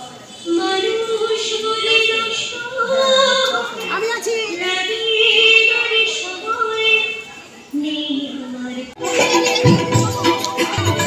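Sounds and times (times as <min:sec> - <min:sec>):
woman singing into a microphone: 0:00.4 - 0:11.0.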